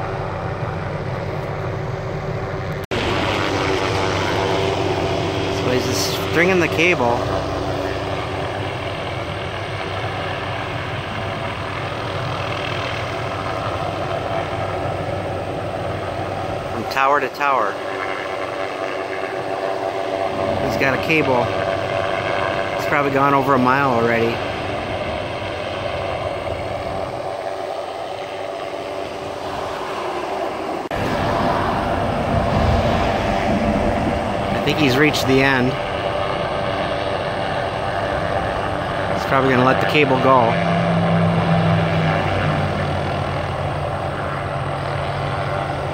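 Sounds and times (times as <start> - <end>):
helicopter drone: 0.0 - 45.9
vehicle engine noise: 0.0 - 45.9.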